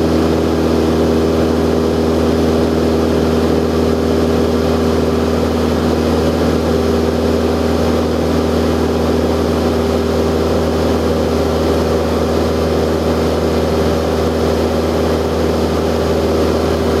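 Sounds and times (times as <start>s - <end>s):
propeller plane engine drone: 0.0s - 17.0s.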